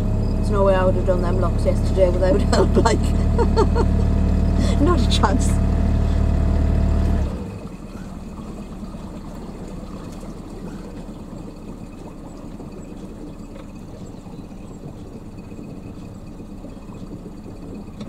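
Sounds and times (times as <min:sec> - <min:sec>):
boat engine idling: 0:00.0 - 0:18.0
water lapping at hull: 0:00.0 - 0:18.0.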